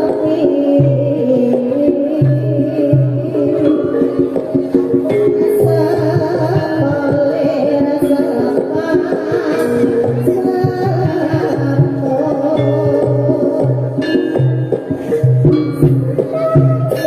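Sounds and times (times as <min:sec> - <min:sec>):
fast hand drumming: 0:00.0 - 0:17.0
gamelan melody: 0:00.0 - 0:17.0.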